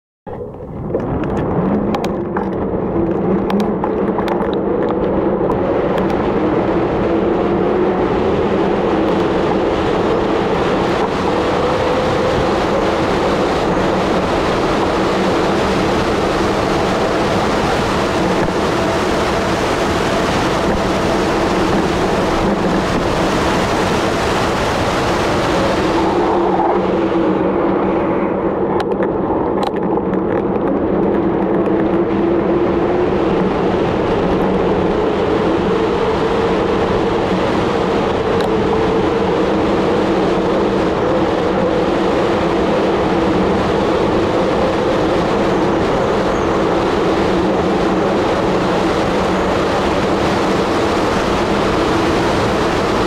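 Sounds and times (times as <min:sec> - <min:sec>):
bicycle tyres on asphalt: 0:00.3 - 0:53.0
wind rushing over microphone: 0:00.3 - 0:53.0.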